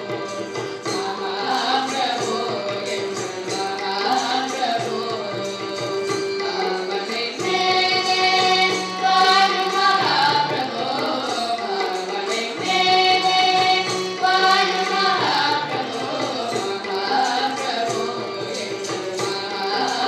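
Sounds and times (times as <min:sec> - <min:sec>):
group of young voices singing: 0:00.0 - 0:20.0.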